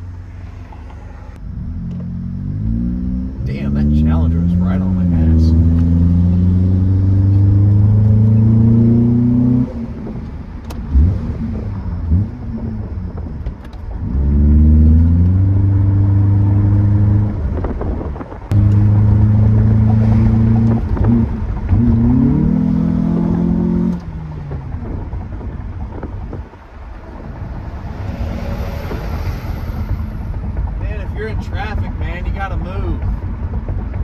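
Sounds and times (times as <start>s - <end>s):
road noise: 0.0s - 34.0s
car engine revving under throttle: 0.7s - 30.9s.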